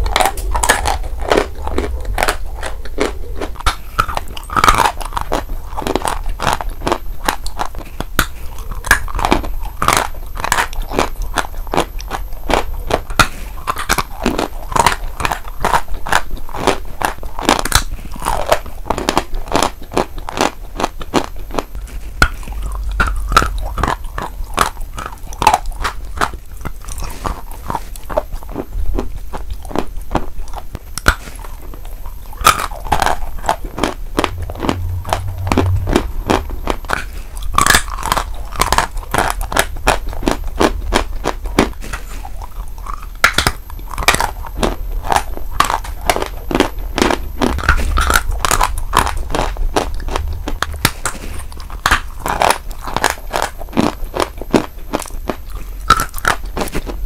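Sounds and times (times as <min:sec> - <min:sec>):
chalk crunching between teeth: 0:00.0 - 0:57.0.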